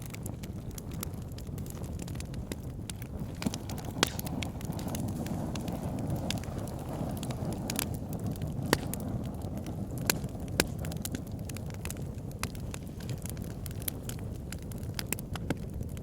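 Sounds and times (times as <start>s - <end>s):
logs crackling and popping: 0.0s - 16.0s
wood fire rumbling: 0.0s - 16.0s.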